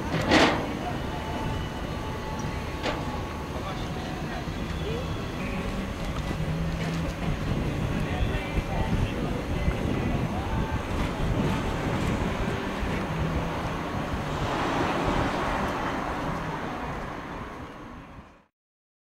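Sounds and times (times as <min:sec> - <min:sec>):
wind buffeting microphone: 0:00.0 - 0:18.3.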